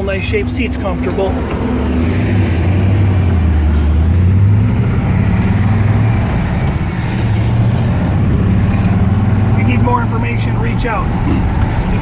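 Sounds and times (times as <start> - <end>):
car engine drone inside cabin: 0.0 - 12.0
road noise: 0.0 - 12.0.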